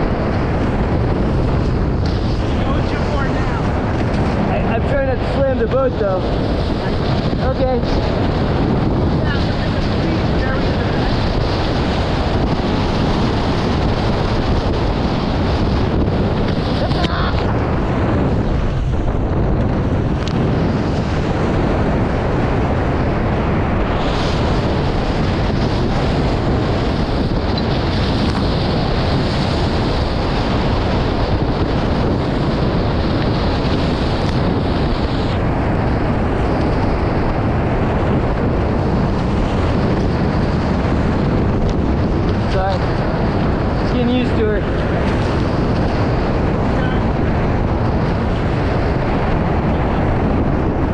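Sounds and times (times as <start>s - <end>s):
water rushing from boat hulls: 0.0s - 50.9s
wind noise on microphone: 0.0s - 50.9s.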